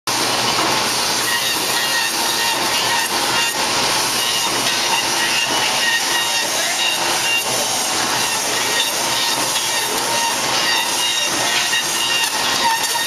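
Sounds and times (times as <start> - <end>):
woodworking machine hissing: 0.1 - 13.0.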